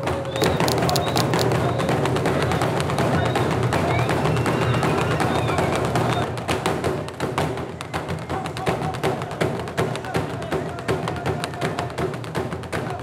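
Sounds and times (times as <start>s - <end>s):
large hide drums beating: 0.0s - 13.0s.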